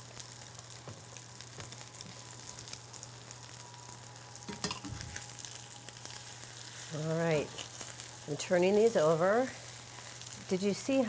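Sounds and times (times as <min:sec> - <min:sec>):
chicken frying in oil: 0:00.0 - 0:11.0.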